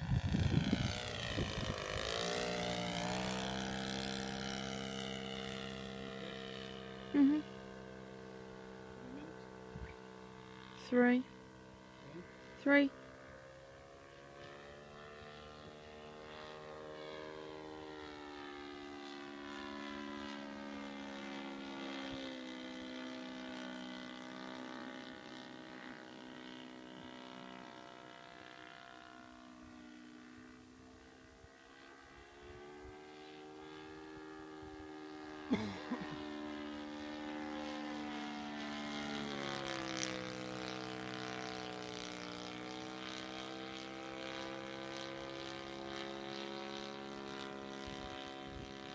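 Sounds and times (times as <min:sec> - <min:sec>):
model plane engine: 0:00.0 - 0:48.9.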